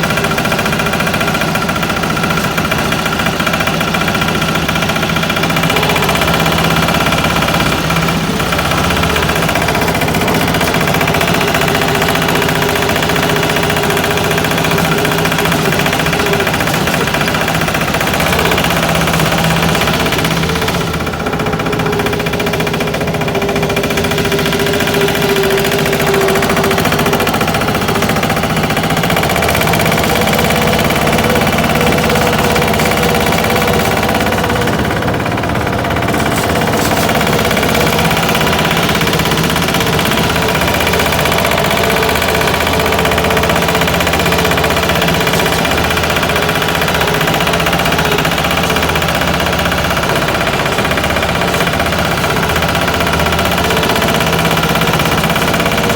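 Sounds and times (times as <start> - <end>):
small diesel engine knocking: 0.0 - 55.9.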